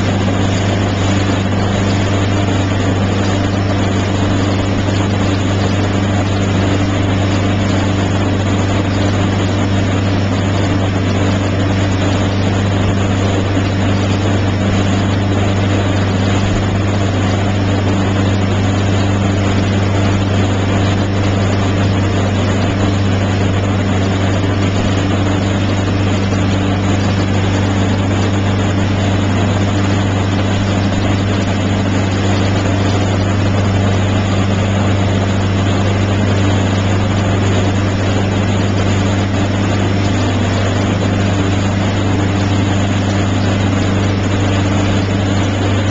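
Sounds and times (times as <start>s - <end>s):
motorboat engine drone: 0.0s - 45.9s
wake water rushing: 0.0s - 45.9s
wind: 0.0s - 45.9s.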